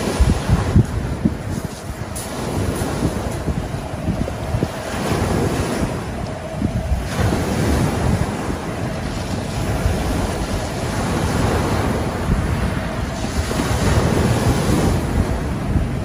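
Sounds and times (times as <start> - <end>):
waves rolling onto beach: 0.0 - 16.0
wind buffeting microphone: 0.0 - 16.0.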